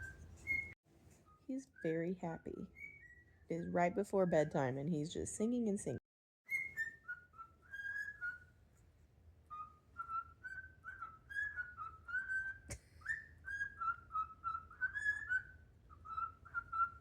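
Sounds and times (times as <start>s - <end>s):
cockatiel whistling: 0.0s - 2.0s, 2.6s - 4.6s, 6.5s - 8.6s, 9.4s - 17.0s.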